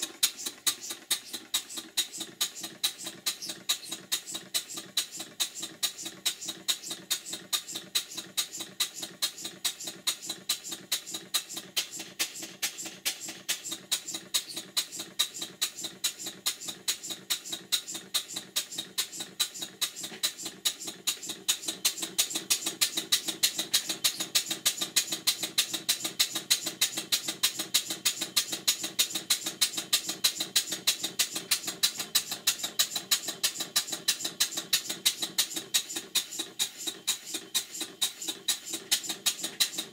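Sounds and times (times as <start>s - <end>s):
model steam engine exhaust puffs: 0.0s - 39.9s.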